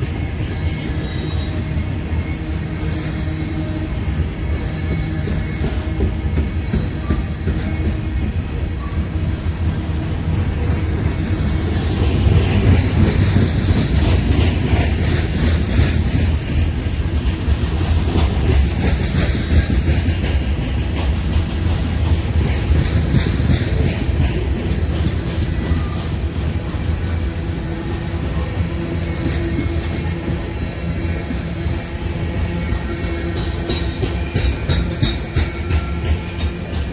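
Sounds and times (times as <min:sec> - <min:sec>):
train wheels rumbling on rails: 0:00.0 - 0:36.9
wheels clicking over rail joints: 0:04.1 - 0:36.9.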